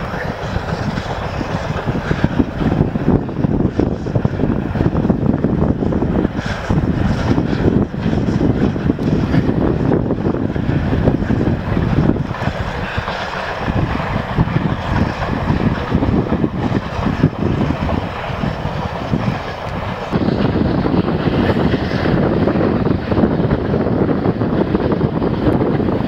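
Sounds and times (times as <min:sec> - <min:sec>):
distant steam locomotive exhaust: 0:00.0 - 0:26.0
wind buffeting microphone: 0:00.0 - 0:26.0.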